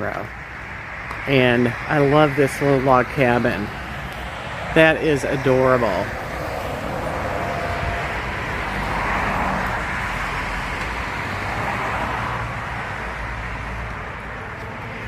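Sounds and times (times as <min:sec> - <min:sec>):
vehicle passing by: 0:01.3 - 0:15.0.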